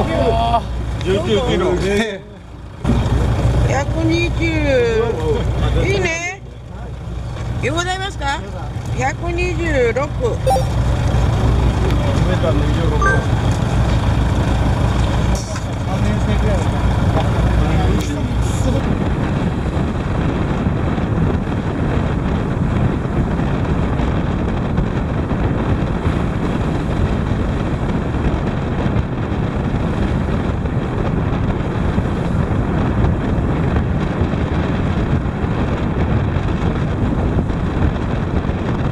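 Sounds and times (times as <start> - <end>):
boat engine: 0.0 - 38.9
wind rumble on microphone: 0.0 - 38.9.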